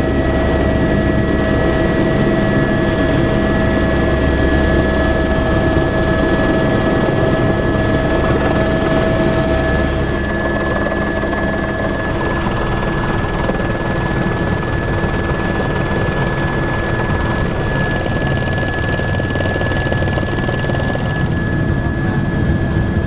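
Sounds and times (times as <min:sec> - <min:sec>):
helicopter drone: 0:00.0 - 0:23.0.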